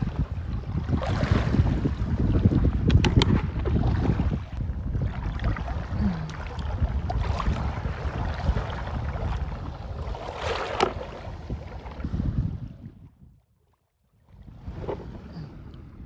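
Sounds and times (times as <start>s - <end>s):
wind buffeting microphone: 0.0s - 13.5s, 14.2s - 16.0s.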